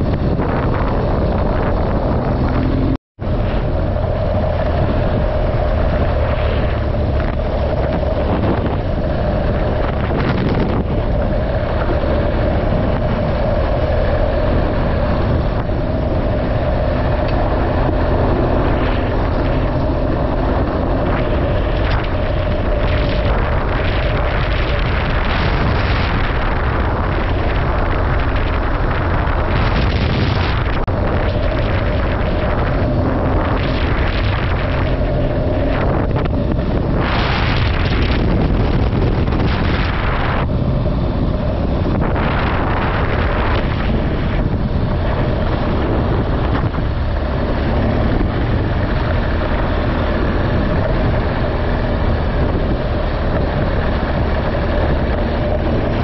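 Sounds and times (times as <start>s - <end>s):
vehicle running noise from on board: 0.0s - 56.0s.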